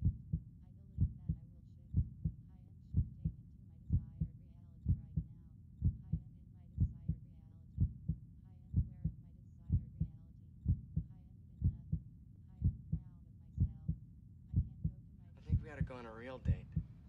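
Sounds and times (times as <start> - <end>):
heartbeat: 0.0 - 2.4, 3.0 - 6.2, 6.8 - 7.2, 7.8 - 12.0, 12.6 - 17.0.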